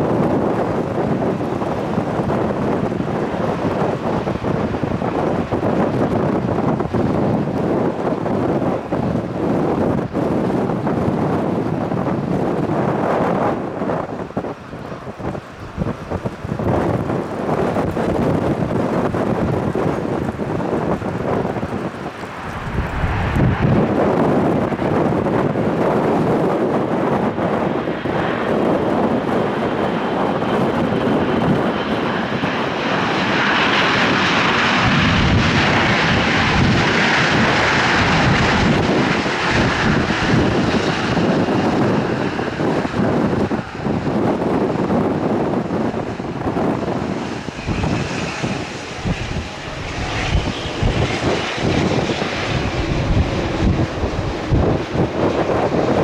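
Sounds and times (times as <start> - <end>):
airliner engines passing: 0.0 - 56.0.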